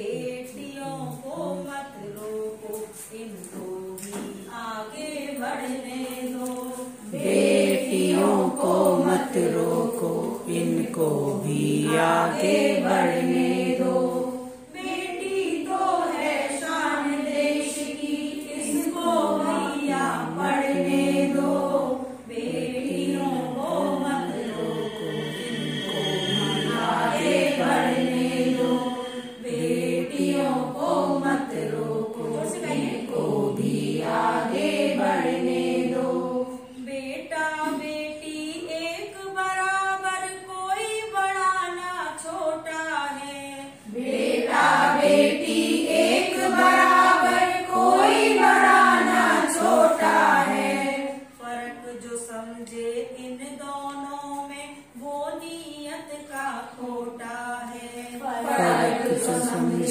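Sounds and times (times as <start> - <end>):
women singing together: 0.0 - 59.9.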